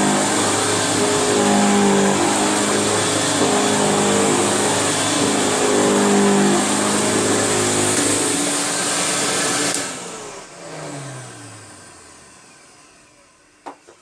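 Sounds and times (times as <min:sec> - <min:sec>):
upright vacuum cleaner running: 0:00.0 - 0:14.0
vacuum motor winding down whine: 0:00.0 - 0:14.0.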